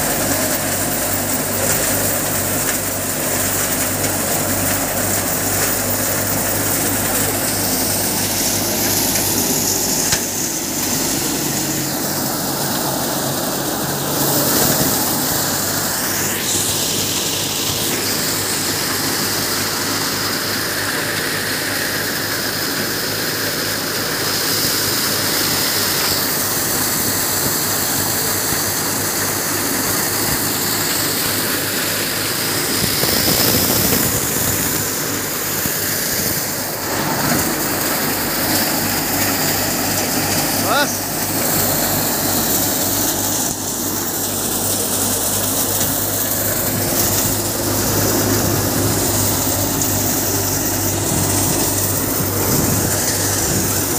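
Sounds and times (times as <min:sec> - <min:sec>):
thresher running: 0:00.0 - 0:53.9.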